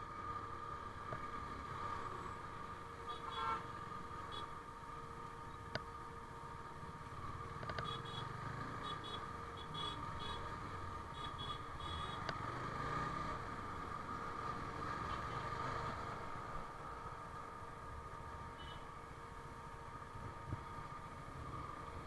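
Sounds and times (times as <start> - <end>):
road and traffic noise: 0.0 - 22.0.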